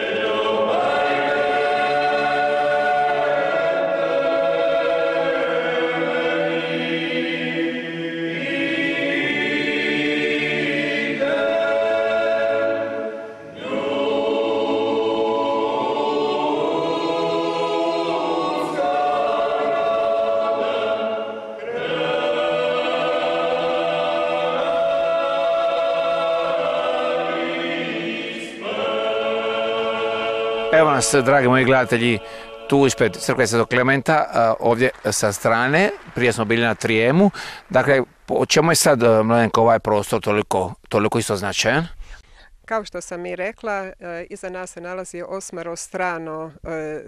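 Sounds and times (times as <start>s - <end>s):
choir singing a cappella: 0.0s - 38.0s.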